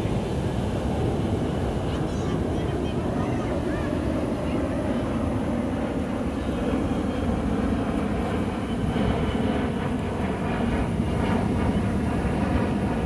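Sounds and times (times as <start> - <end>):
jet engines rumbling overhead: 0.0 - 13.0.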